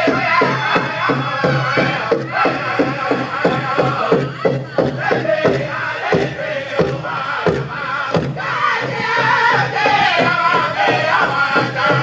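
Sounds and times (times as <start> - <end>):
big drum beating: 0.0 - 12.0
group of singers chanting: 0.0 - 12.0.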